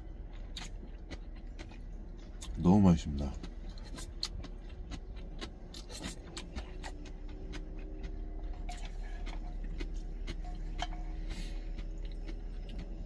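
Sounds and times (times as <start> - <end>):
chewing: 0.0 - 13.0
low hum: 0.0 - 13.0.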